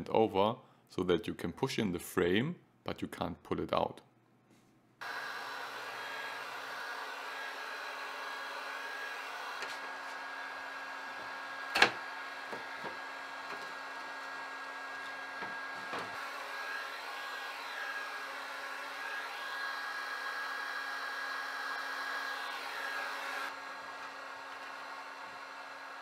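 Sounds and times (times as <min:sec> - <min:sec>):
heat gun fan whirring: 0:05.0 - 0:26.0.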